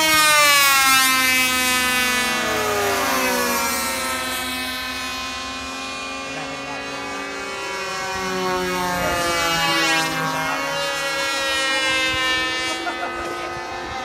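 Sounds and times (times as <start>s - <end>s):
model airplane engines buzzing: 0.0s - 14.0s.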